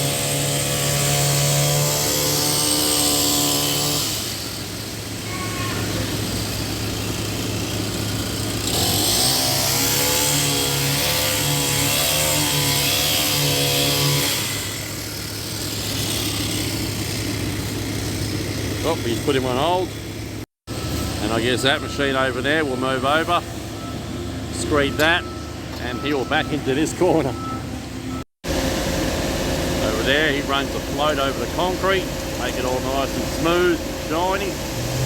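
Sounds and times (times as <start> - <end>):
heavy engine revving: 0.0 - 35.0.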